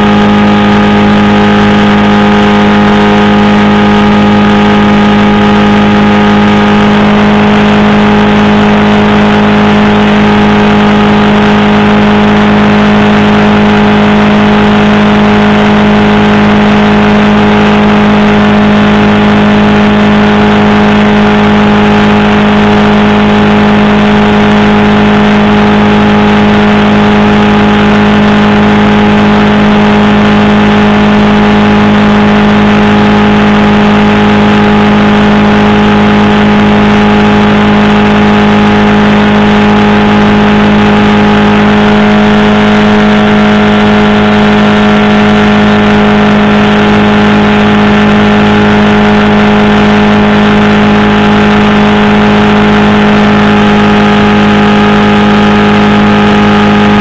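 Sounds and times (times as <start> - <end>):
engine and propeller running: 0.0 - 57.0.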